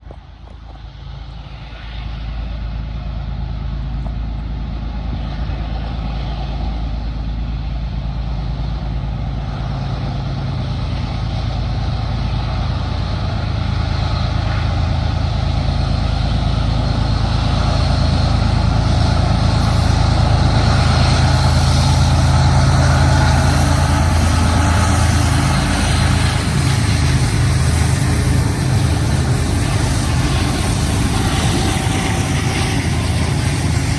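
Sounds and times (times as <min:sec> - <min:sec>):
diesel locomotive engine throb: 0:00.0 - 0:33.9
rumbling rail noise: 0:00.0 - 0:33.9.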